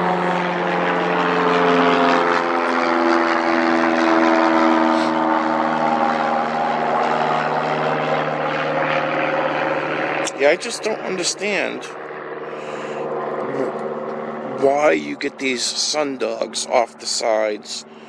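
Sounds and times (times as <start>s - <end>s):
propeller airplane engine droning: 0.0s - 18.0s.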